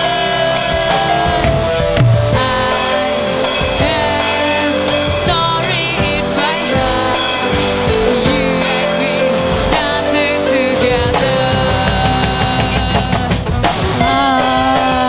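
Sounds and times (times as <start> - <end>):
girl singing into microphone: 0.0 - 13.4, 14.0 - 15.0
bass guitar: 0.0 - 15.0
drum kit: 0.0 - 15.0
electric guitar: 0.0 - 15.0.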